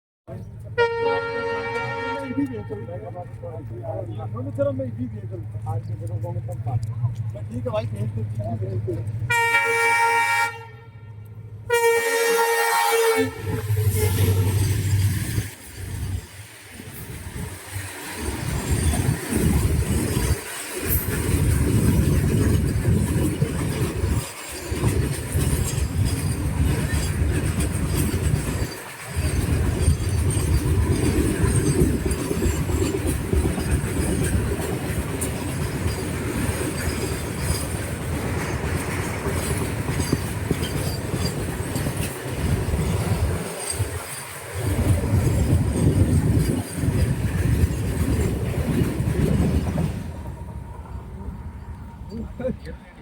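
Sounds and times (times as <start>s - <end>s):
train wheels rumbling on rails: 0.3s - 53.0s.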